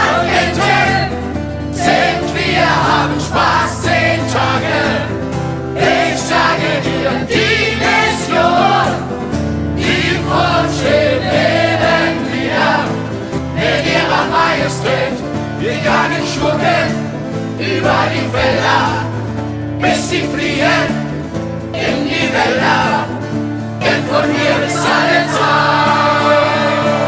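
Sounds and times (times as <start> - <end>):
children singing together: 0.0 - 5.2, 5.8 - 9.1, 9.8 - 19.1, 21.8 - 23.2, 23.8 - 27.0
instrumental accompaniment: 0.0 - 27.0.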